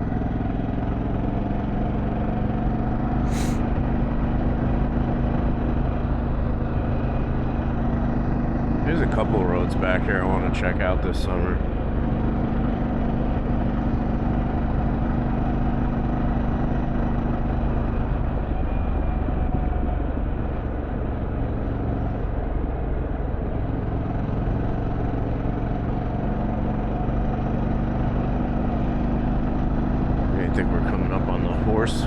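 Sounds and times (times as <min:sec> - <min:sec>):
motorcycle engine cruising: 0:00.0 - 0:32.0
wind and road noise: 0:00.0 - 0:32.0.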